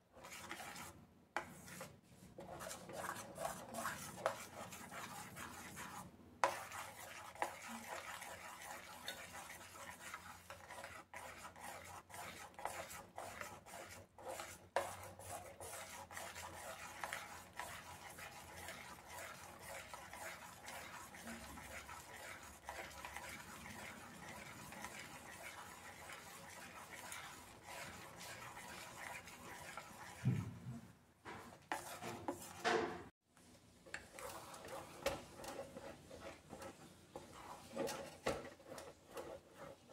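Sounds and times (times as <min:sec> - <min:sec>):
spoon stirring mashed squash: 0:00.0 - 0:30.4, 0:31.3 - 0:32.6, 0:33.4 - 0:39.9.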